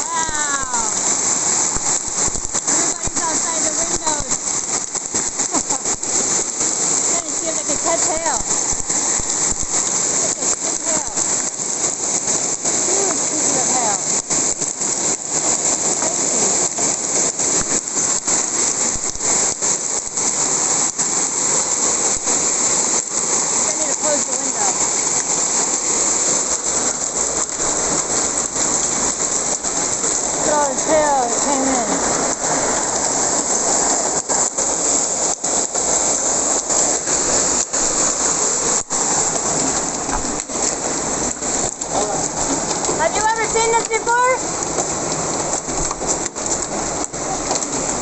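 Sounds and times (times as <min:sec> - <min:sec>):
hail and heavy rain: 0:00.0 - 0:48.0.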